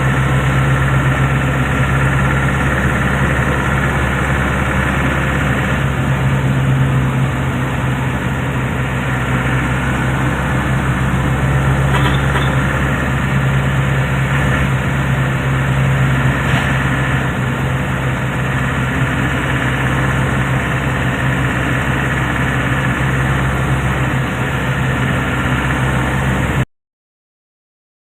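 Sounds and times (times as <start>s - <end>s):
machine hum: 0.0s - 26.6s.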